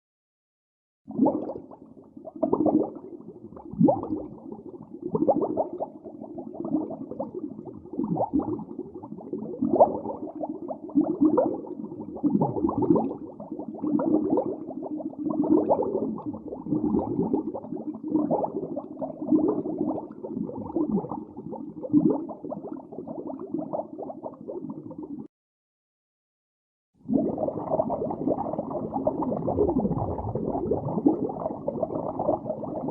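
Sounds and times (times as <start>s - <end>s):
muffled underwater bubbling: 1.1s - 25.3s, 27.0s - 32.9s.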